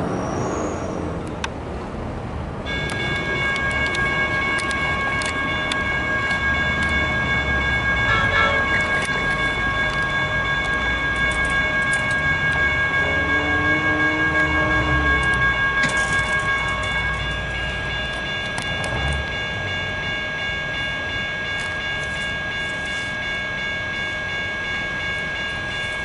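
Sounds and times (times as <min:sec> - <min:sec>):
high-pitched train whine: 0:00.0 - 0:01.4, 0:02.6 - 0:26.0
train rumble on tracks: 0:00.0 - 0:26.0
low wavering tones: 0:02.7 - 0:26.0.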